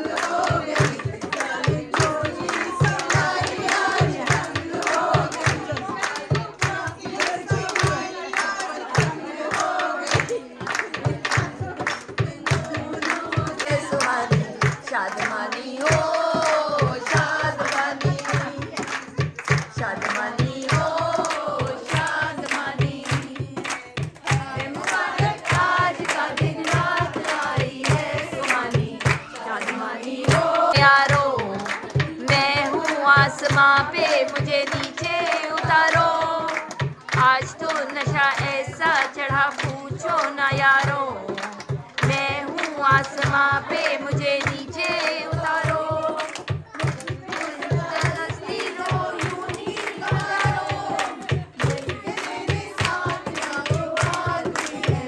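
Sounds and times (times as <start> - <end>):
rhythmic hand drum beat: 0.0 - 55.0
voices singing together: 0.0 - 55.0.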